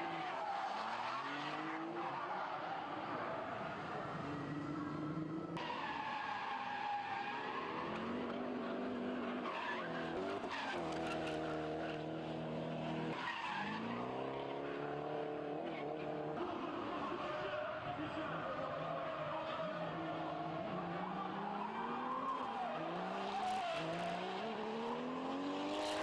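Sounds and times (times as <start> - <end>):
car engines revving: 0.0 - 26.0
tyres skidding and screeching: 0.0 - 26.0.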